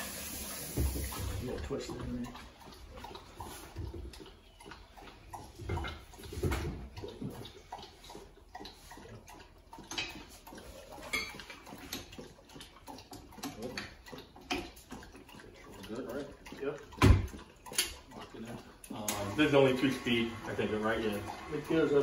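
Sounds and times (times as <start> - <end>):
faint kitchen noise: 0.0 - 22.0.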